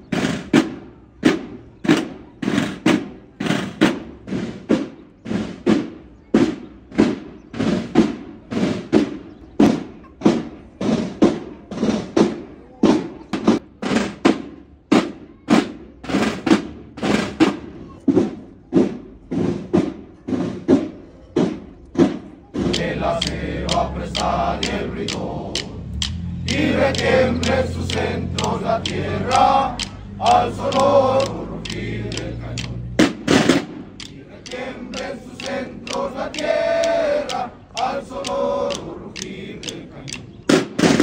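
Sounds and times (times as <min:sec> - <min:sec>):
marching bass drum: 0:00.0 - 0:41.0
marching snare drum: 0:00.0 - 0:41.0.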